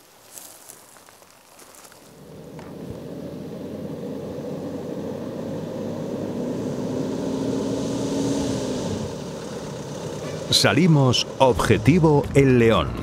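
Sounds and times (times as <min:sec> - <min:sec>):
steady engine hum: 0:01.6 - 0:13.0
pickup truck driving past: 0:02.1 - 0:13.0.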